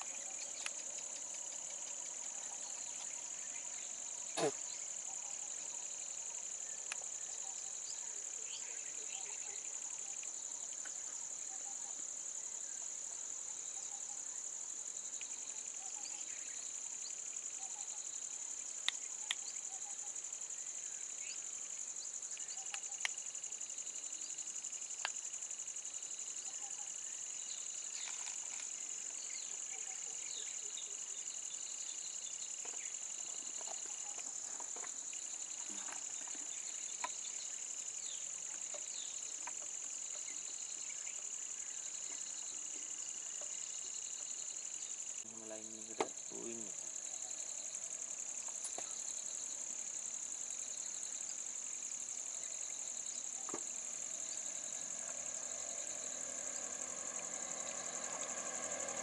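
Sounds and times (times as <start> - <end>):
high-pitched insect chorus: 0.0 - 59.0
lower insect tone: 0.0 - 59.0.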